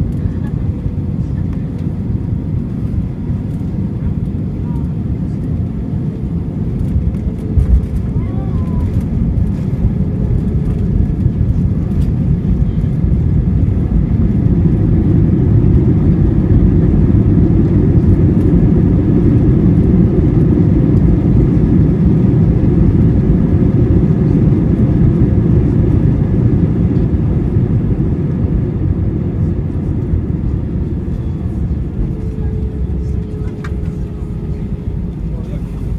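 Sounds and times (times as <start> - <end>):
jet engines and airflow rumble: 0.0 - 35.9.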